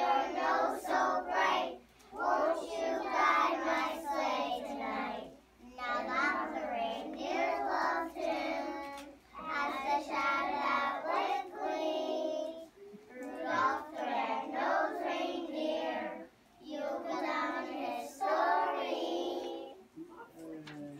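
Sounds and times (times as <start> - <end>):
children singing together: 0.0 - 19.8.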